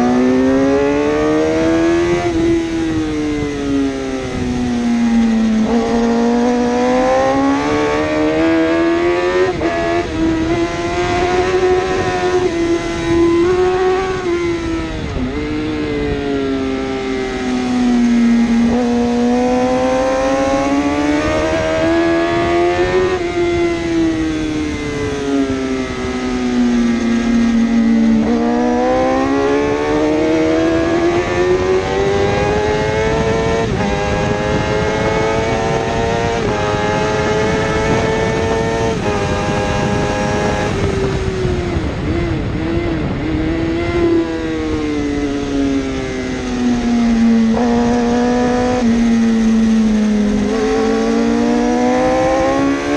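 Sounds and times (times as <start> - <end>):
motorcycle engine revving through gears: 0.0 - 52.9.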